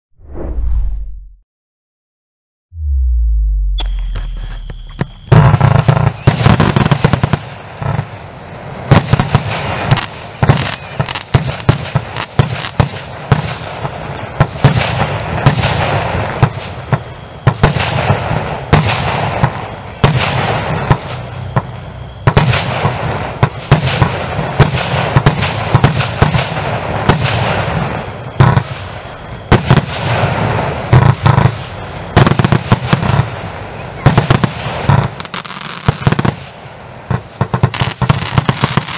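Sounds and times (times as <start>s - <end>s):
firework barrage bangs: 4.1s - 38.9s.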